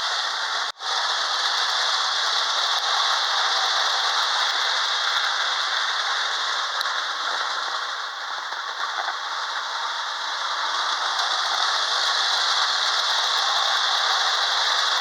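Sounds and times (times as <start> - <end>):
model trains running on track: 0.0 - 15.0.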